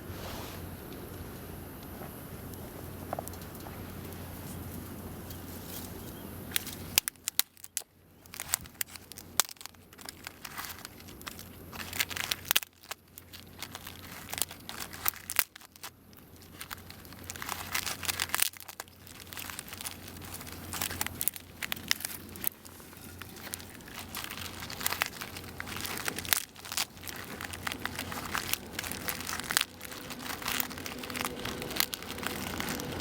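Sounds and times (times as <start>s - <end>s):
wood fire crackling and popping: 0.9s - 5.4s, 6.4s - 33.0s.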